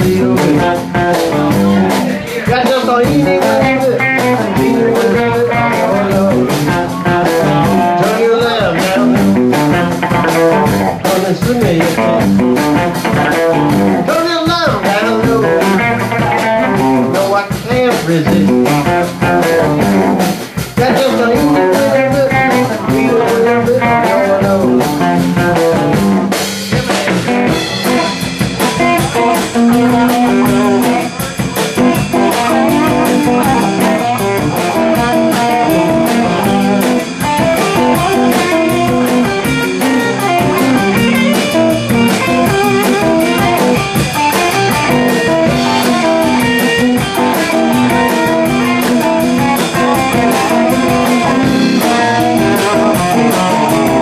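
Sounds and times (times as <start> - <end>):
drum kit: 0.0 - 54.0
electric bass: 0.0 - 54.0
electric guitars: 0.0 - 54.0.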